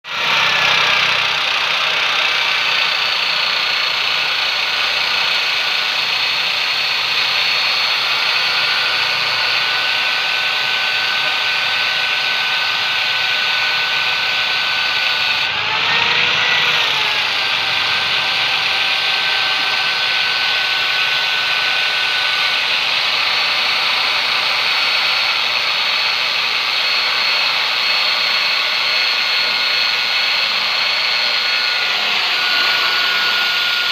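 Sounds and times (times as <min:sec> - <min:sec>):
power tool whining: 0:00.0 - 0:33.9.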